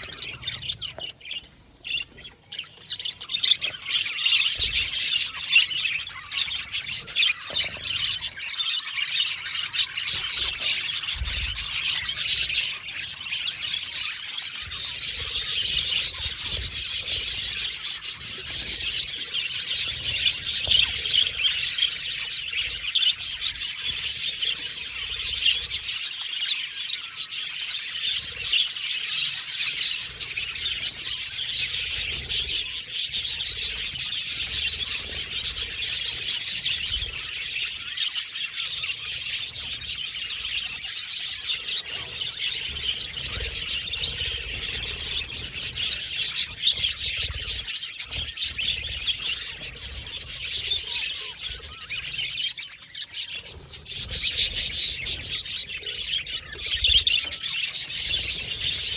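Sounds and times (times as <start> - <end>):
budgerigars chirping: 0.0 - 58.9.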